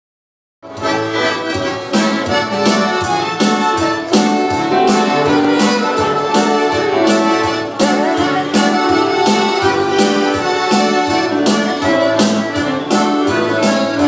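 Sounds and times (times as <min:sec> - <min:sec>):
accordion melody: 0:00.6 - 0:14.0
keyboard accompaniment: 0:00.6 - 0:14.0
steady beat: 0:00.7 - 0:14.0.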